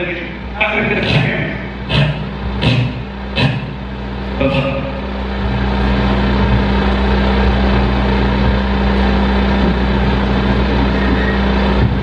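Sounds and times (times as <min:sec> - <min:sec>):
electronic noise drone: 0:00.0 - 0:12.0
steady low tone: 0:00.0 - 0:12.0.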